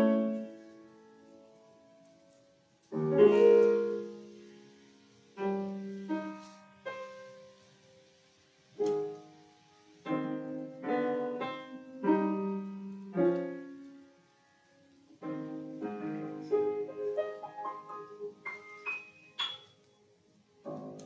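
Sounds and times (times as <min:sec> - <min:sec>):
grand piano chords: 0:00.0 - 0:21.0.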